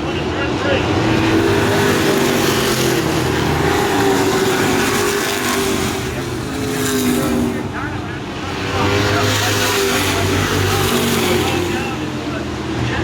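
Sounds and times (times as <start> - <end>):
racing truck engines passing: 0.0 - 13.0.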